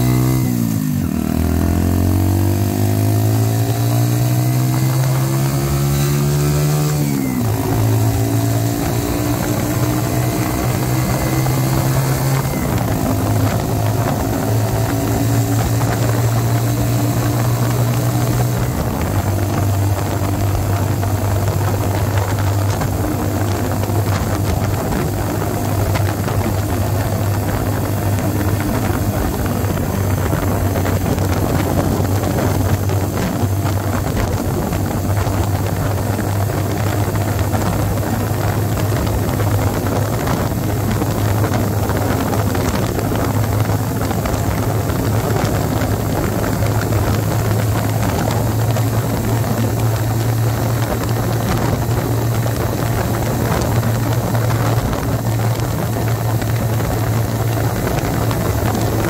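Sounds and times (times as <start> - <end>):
motorcycle engine cruising: 0.0 - 59.0
wind noise on microphone: 0.0 - 59.0.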